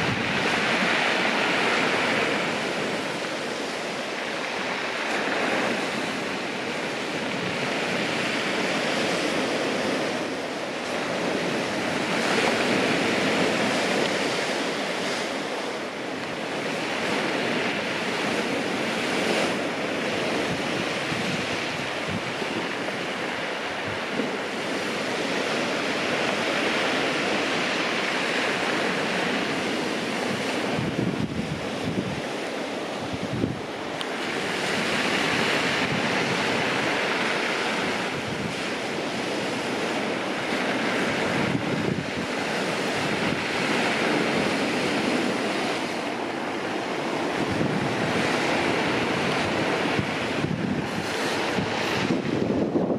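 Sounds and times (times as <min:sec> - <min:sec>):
surf washing over shingle: 0:00.0 - 0:52.9
wind buffeting microphone: 0:00.0 - 0:52.9.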